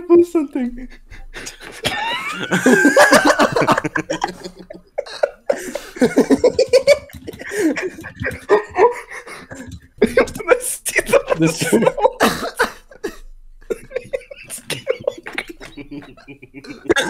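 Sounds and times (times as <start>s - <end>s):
laughter over voice chat: 0.9s - 17.0s.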